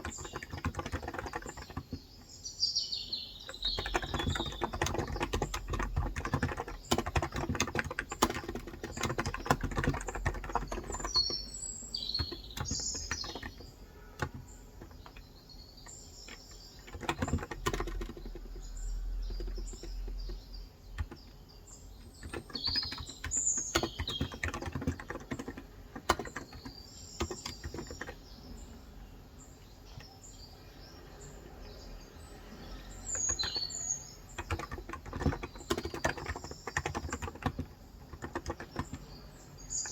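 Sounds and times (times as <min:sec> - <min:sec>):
keyboard typing: 0:00.0 - 0:02.3, 0:03.4 - 0:28.6, 0:32.8 - 0:39.9
small birds chirping: 0:00.0 - 0:39.9.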